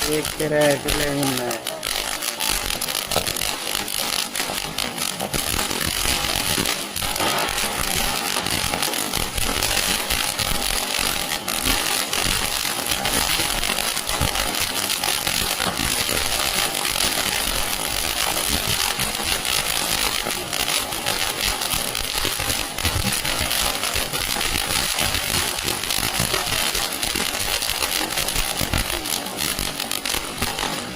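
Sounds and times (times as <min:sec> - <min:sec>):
fountain firework hissing and crackling: 0:00.0 - 0:30.9.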